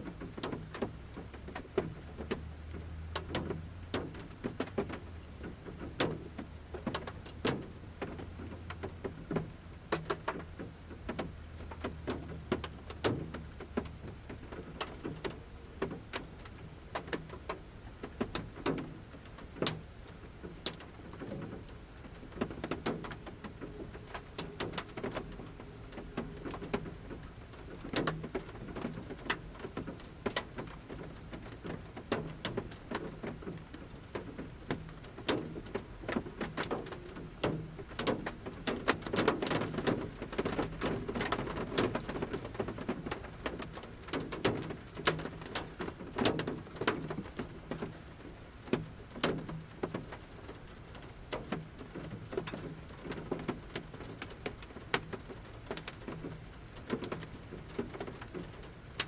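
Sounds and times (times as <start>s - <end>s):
rain drops on metal roof: 0.0s - 59.0s.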